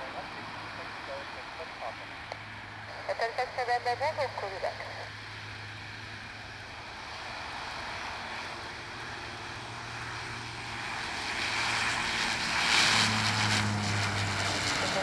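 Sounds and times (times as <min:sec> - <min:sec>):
turboprop plane propeller drone: 0:00.0 - 0:15.0.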